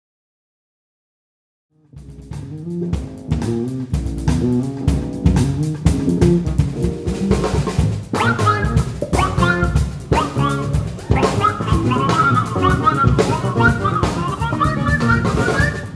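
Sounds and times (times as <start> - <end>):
drum kit: 1.9 - 15.9
electric bass lines: 2.0 - 15.9
higher melodic line: 2.0 - 15.9.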